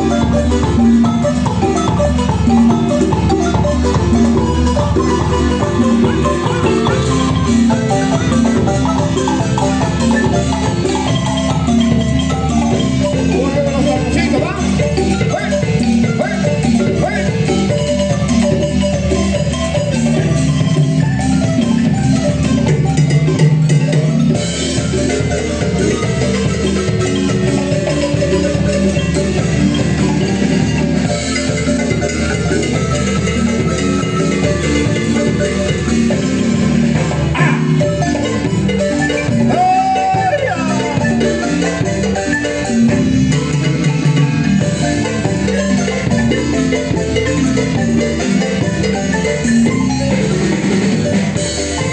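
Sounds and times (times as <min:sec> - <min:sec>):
marimba playing dance tune: 0:00.0 - 0:51.9
percussion: 0:00.0 - 0:51.9
steady bass: 0:00.0 - 0:51.9.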